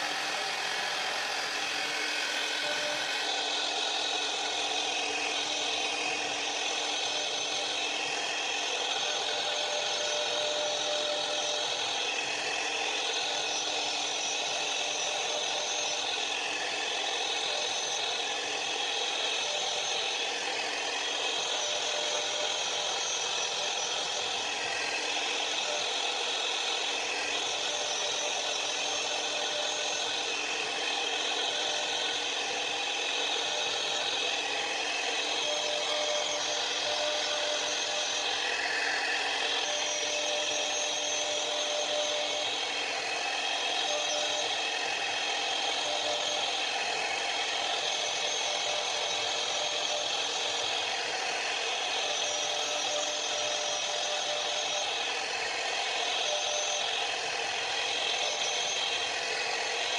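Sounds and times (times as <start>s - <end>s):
router spindle high whine: 0.0s - 59.9s.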